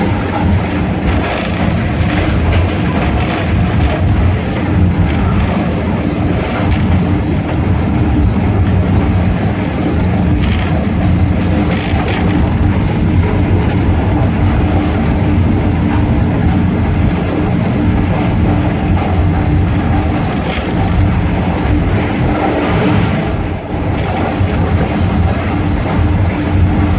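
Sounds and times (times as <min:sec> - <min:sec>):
sharp track clacks: 0:00.0 - 0:26.9
train wheels rumbling on rails: 0:00.0 - 0:26.9.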